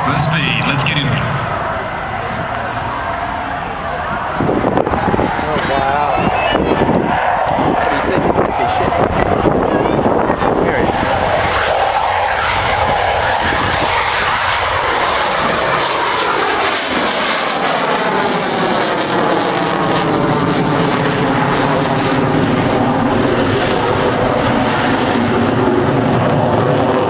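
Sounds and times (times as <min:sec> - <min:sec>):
airplane engine flying past: 0:00.0 - 0:27.0.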